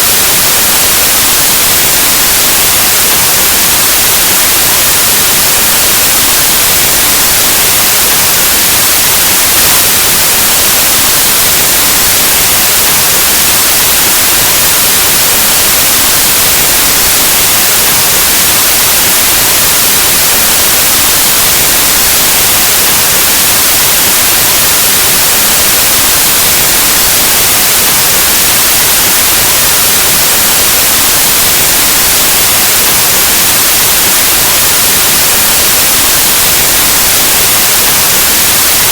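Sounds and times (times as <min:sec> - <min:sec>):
white noise static hiss: 0:00.0 - 0:38.9.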